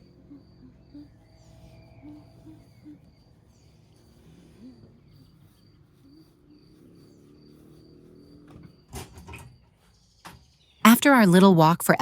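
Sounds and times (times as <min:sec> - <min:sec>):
cricket chirping: 0:00.0 - 0:10.8.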